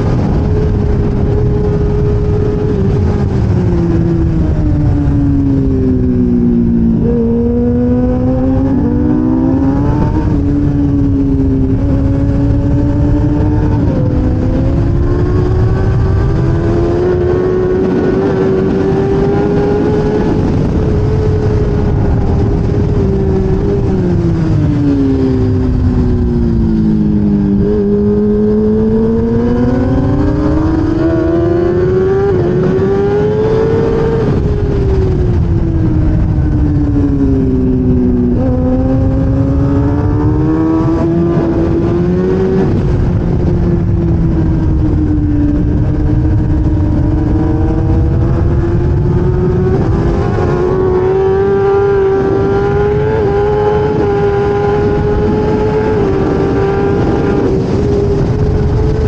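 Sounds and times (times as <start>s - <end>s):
heavy wind rush: 0.0s - 59.0s
racing motorcycle engine revving: 0.0s - 59.0s.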